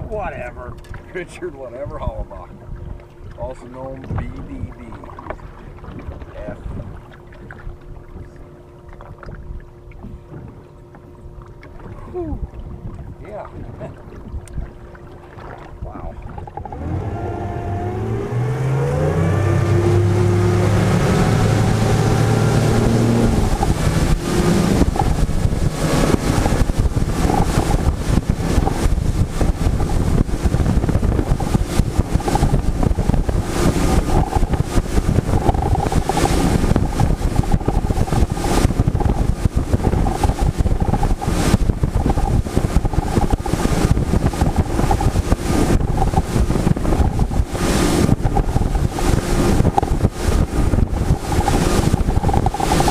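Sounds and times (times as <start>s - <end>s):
motorboat engine speeding up: 0.0s - 52.9s
wind buffeting microphone: 0.0s - 52.9s.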